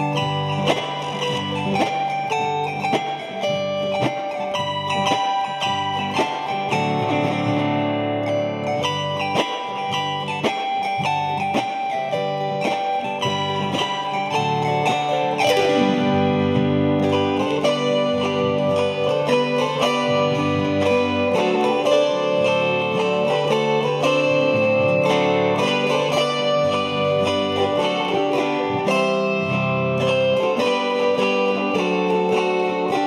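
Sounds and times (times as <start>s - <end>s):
zithers strumming a hymn: 0.0s - 33.0s.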